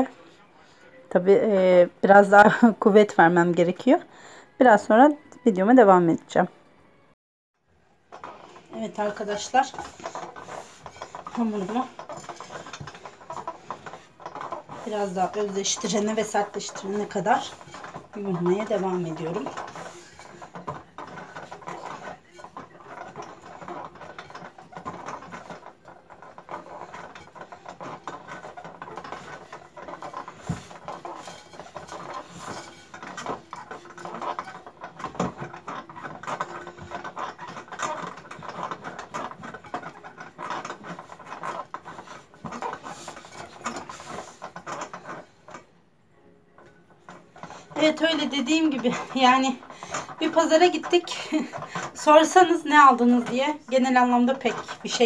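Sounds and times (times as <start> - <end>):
dough being kneaded by hand: 7.8 - 55.0.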